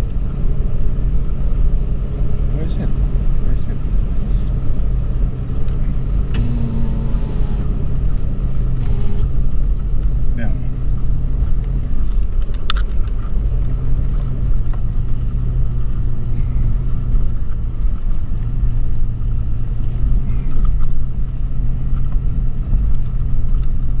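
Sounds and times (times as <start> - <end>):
car engine drone inside cabin: 0.0 - 24.0.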